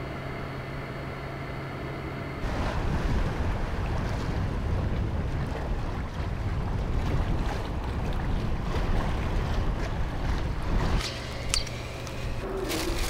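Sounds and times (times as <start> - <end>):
sea wash on shore: 0.5 - 13.0
wind rumbling on microphone: 2.4 - 13.0.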